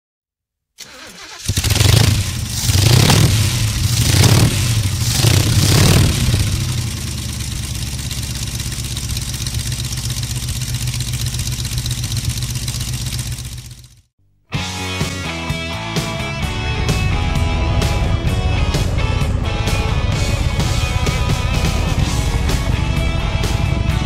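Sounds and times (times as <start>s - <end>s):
motorcycle engine revving and idling: 1.2s - 14.1s, 16.0s - 24.0s.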